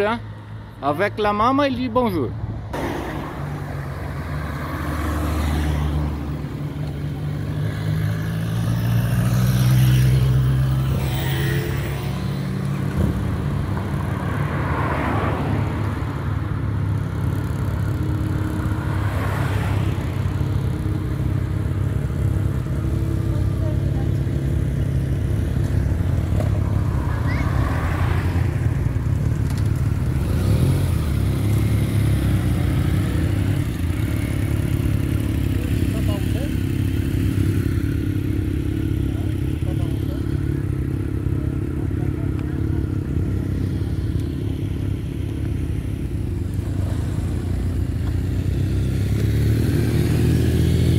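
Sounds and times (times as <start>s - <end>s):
cars passing: 0.0s - 50.9s
motorcycle engines moving off: 0.0s - 50.9s.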